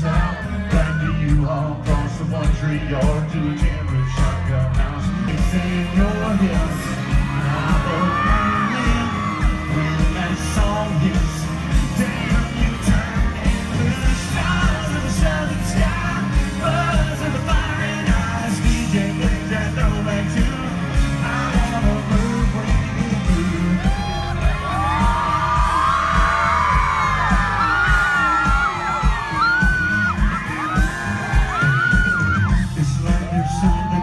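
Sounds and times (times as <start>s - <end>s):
drum beat: 0.0s - 34.0s
live country band playing: 0.0s - 34.0s
man singing lead vocal: 0.0s - 34.0s.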